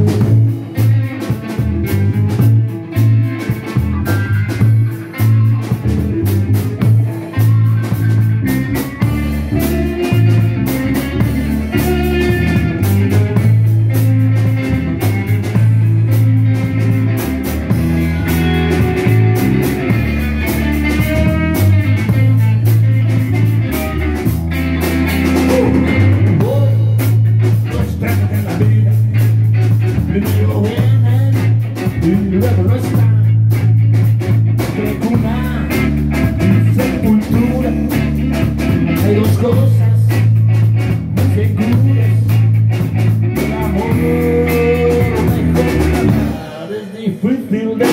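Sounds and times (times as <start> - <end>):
drum kit: 0.0 - 46.9
electric bass guitar: 0.0 - 47.9.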